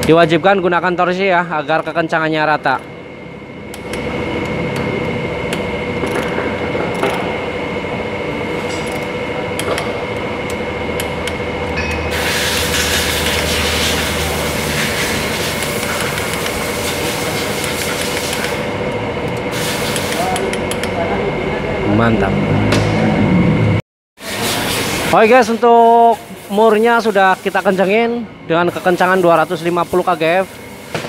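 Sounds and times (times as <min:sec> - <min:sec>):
constant workshop hum: 0:00.0 - 0:31.0.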